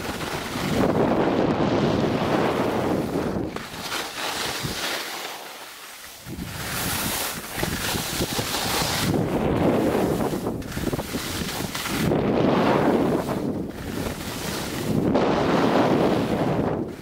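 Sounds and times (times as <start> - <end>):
wind buffeting microphone: 0.0 - 3.8, 6.2 - 17.0
skis scraping over snow: 0.0 - 17.0.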